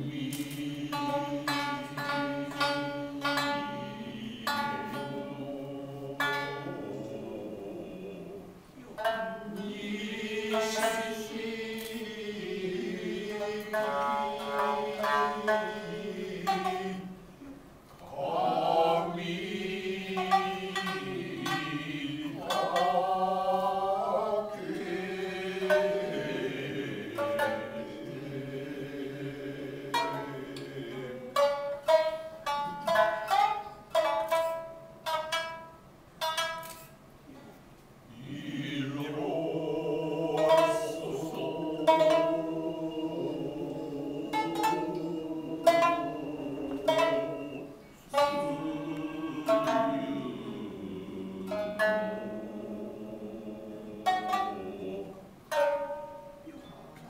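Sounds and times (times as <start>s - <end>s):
voices singing held notes: 0.0s - 33.2s, 38.1s - 56.5s
shamisen plucking: 0.0s - 37.6s, 38.2s - 57.0s.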